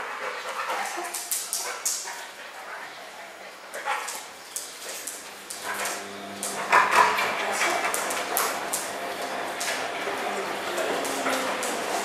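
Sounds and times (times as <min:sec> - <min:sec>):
dog claws clicking on tile: 0:00.6 - 0:02.3, 0:03.7 - 0:12.0.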